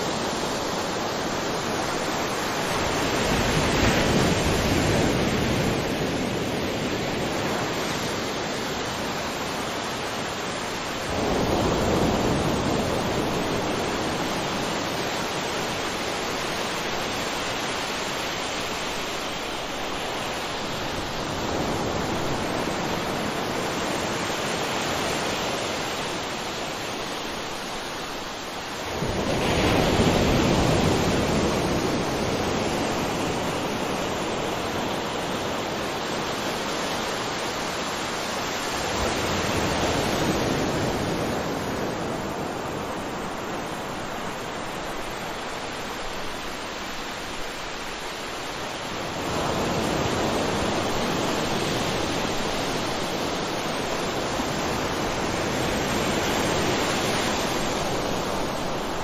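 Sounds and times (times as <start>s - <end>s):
waterfall rushing: 8.3s - 59.0s.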